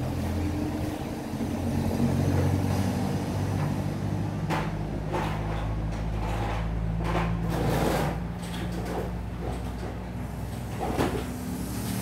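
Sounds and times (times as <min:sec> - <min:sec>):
engine running at low speed: 0:00.0 - 0:12.0.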